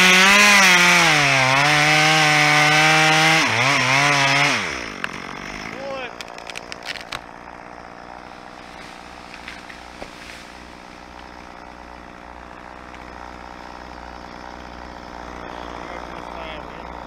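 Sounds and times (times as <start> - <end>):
chainsaw idling: 0.0 - 17.0.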